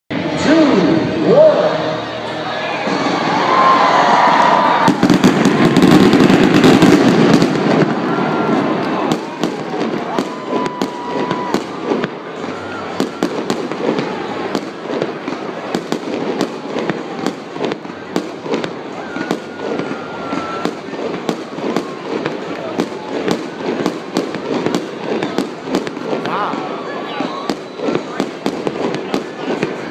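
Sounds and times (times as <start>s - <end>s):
loud rushing noise: 0.1s - 29.9s
fireworks bangs and crackles: 3.0s - 29.9s.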